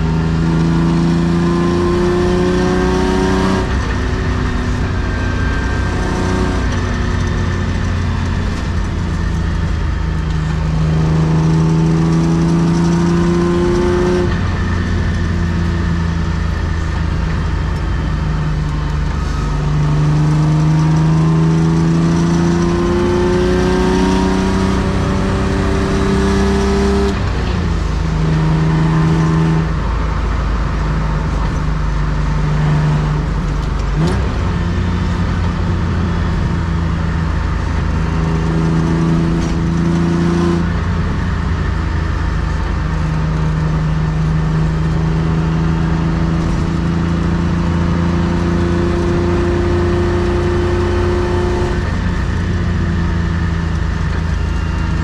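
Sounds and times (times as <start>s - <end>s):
car engine from inside cabin: 0.0s - 55.0s
road and tyre noise: 0.0s - 55.0s.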